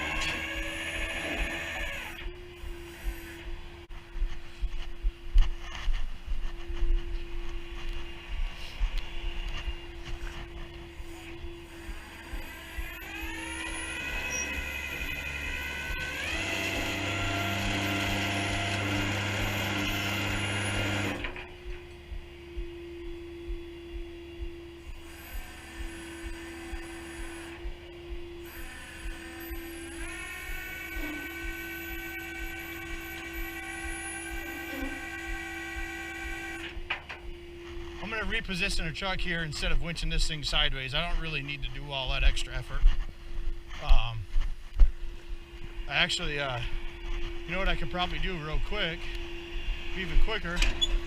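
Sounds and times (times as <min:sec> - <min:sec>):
winch motor whine: 0:00.0 - 0:51.0
steady hum with light clicks: 0:00.2 - 0:14.6, 0:15.4 - 0:51.0.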